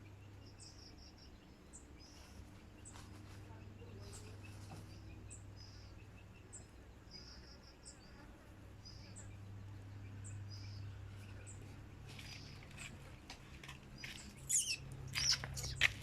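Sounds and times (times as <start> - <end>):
bird chirping: 0.0 - 16.0
steady low hum: 0.0 - 16.0.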